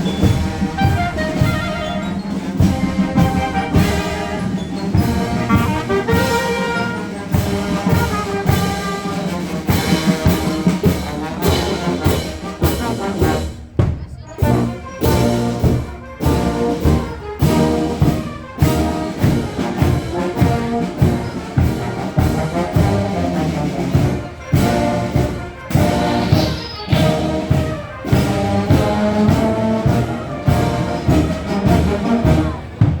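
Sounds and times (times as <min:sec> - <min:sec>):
brass instruments playing march: 0:00.0 - 0:33.0
drums and cymbals beat: 0:00.0 - 0:33.0.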